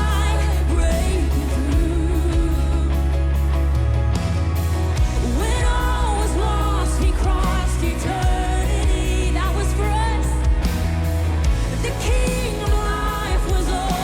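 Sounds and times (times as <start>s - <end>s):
person singing: 0.0s - 3.6s, 5.1s - 10.9s, 11.8s - 14.0s
band playing worship song: 0.0s - 14.0s.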